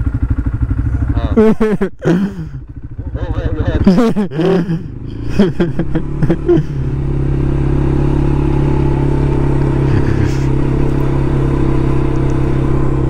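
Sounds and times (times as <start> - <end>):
quad bike engine droning: 0.0 - 13.0.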